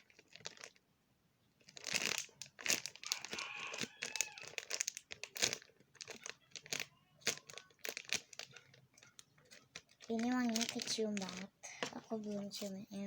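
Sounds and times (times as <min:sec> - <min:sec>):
plastic packaging crinkling: 0:00.0 - 0:00.9, 0:01.6 - 0:13.0.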